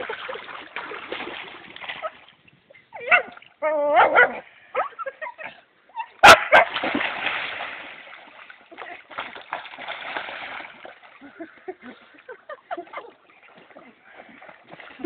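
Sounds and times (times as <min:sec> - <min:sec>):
water splashing: 0:00.0 - 0:03.7, 0:06.2 - 0:15.0.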